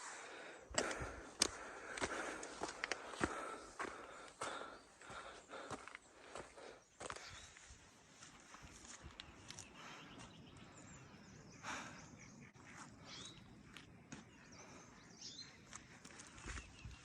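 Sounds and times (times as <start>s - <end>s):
faint footsteps on trail: 0.0s - 11.1s, 12.6s - 17.0s
birds chirping: 0.0s - 17.0s.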